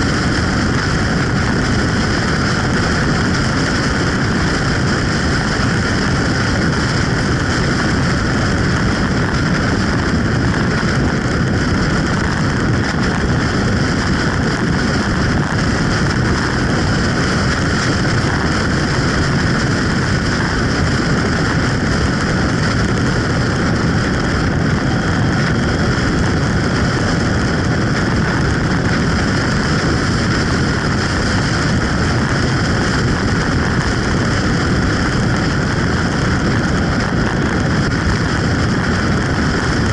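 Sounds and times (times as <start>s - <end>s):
motorcycle running: 0.0s - 39.9s
road noise: 0.0s - 39.9s
wind buffeting microphone: 0.0s - 39.9s.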